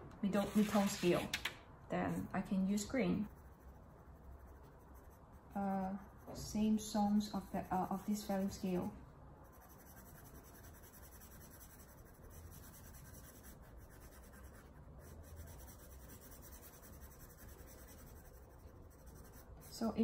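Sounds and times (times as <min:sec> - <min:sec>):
pencil scratching on paper: 0:00.4 - 0:01.3, 0:02.8 - 0:20.0.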